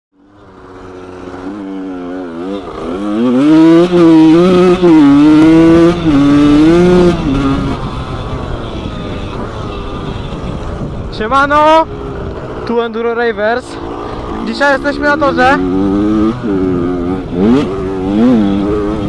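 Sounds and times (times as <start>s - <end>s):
two-stroke motorbike engine revving: 0.2s - 19.0s.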